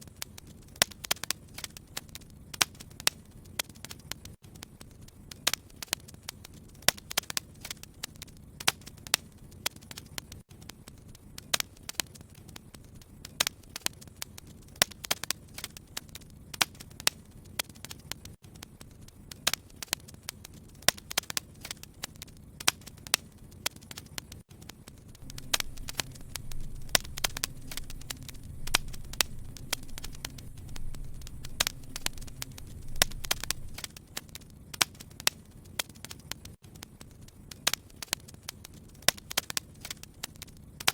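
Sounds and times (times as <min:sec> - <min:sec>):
low rumble of fire: 0:00.0 - 0:40.9
wood fire crackling and popping: 0:00.0 - 0:40.9.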